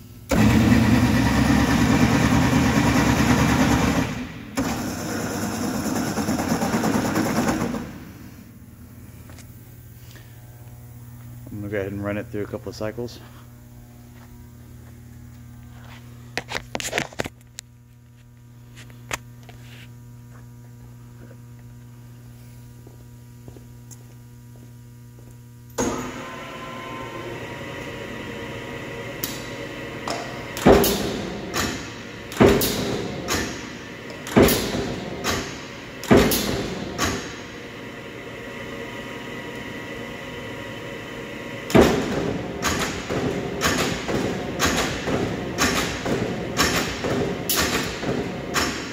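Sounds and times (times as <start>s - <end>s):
power shear motor humming: 0.0s - 16.6s, 25.2s - 48.9s.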